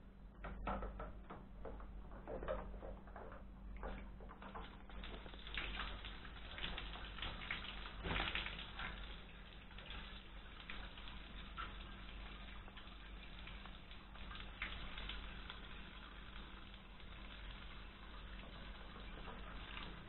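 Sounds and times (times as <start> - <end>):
low steady hum: 0.0 - 20.0
water pattering on cage: 0.4 - 20.0.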